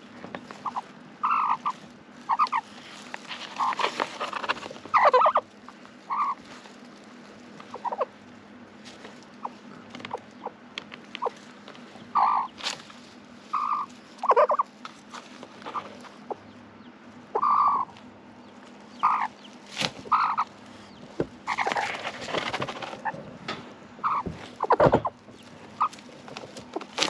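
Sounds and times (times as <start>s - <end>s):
hen clucking: 0.0s - 27.0s.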